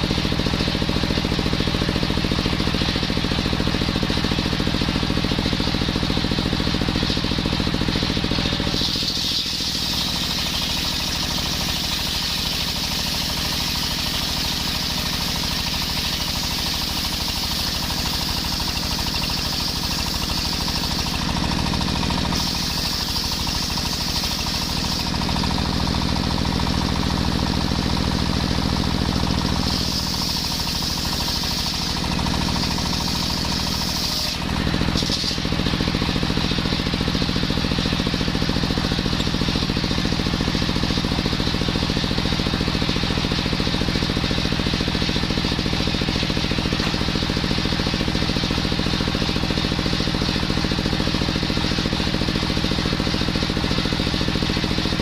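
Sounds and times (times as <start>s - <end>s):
circular saw cutting wood: 2.8s - 26.7s, 28.5s - 55.0s.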